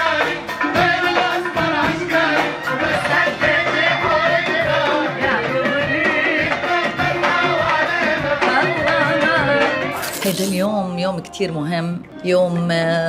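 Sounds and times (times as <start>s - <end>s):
band with hand-drum beat: 0.0s - 10.5s.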